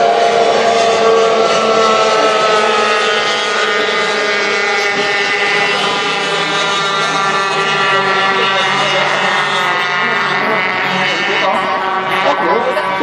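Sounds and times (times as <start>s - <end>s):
powerboat engines buzzing: 0.0s - 13.0s.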